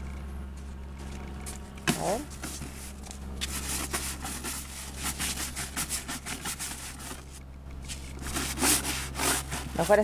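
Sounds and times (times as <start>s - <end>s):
scrub brush scrubbing plastic chair: 1.9s - 10.0s.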